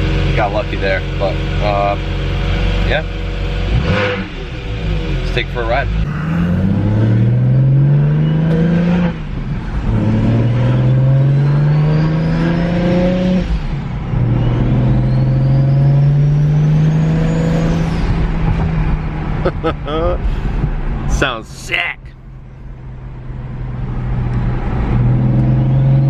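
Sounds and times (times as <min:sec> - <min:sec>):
car engine accelerating hard: 0:00.0 - 0:21.2, 0:22.8 - 0:26.0.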